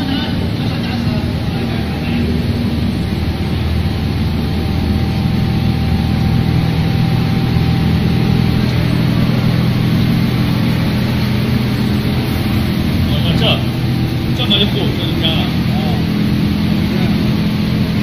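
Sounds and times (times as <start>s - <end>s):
loud steady machine drone: 0.0s - 18.0s.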